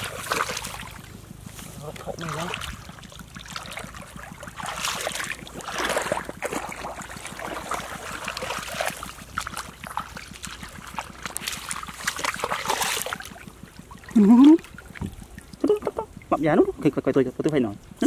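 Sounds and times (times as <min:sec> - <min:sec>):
muddy water splashing and sloshing: 0:00.0 - 0:18.0.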